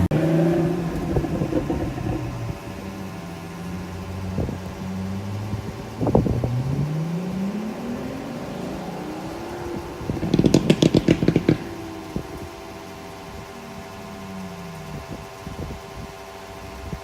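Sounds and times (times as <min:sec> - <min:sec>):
car engine idling: 0:00.0 - 0:17.0
car engine revving: 0:00.0 - 0:17.0
loud exhaust crackles and pops: 0:00.0 - 0:17.0.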